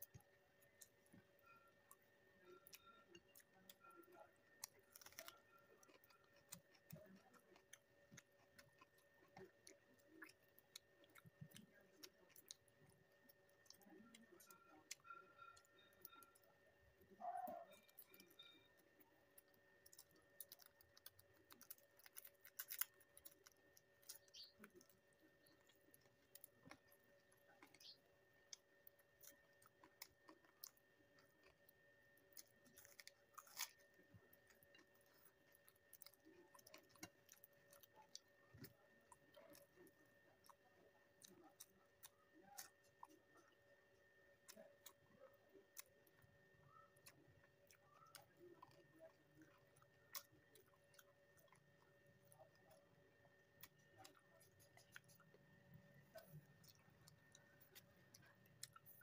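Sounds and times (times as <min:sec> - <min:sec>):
close chewing and eating: 0:00.0 - 0:59.0
faint electrical hum: 0:00.0 - 0:59.0.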